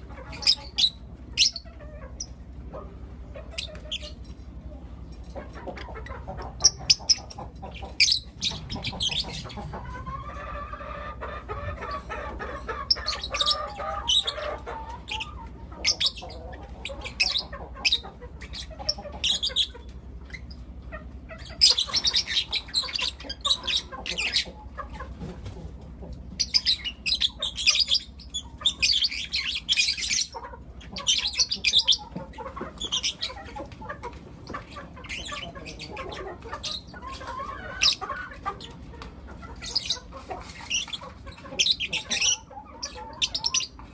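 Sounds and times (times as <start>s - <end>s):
lovebirds chirping: 0.0s - 2.5s, 3.3s - 25.4s, 26.3s - 43.9s
steady low hum: 0.0s - 37.1s.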